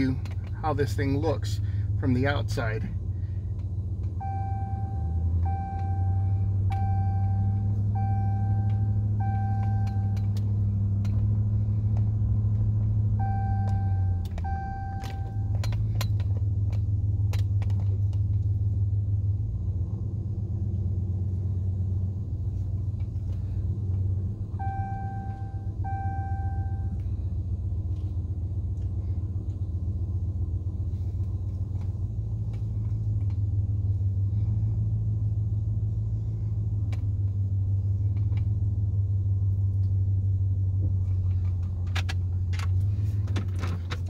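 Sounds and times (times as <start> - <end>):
truck engine and road noise: 0.0 - 44.0.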